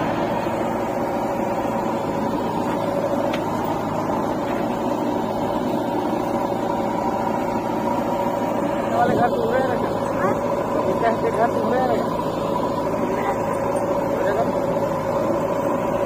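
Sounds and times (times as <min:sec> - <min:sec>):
diesel engines droning: 0:00.0 - 0:16.0.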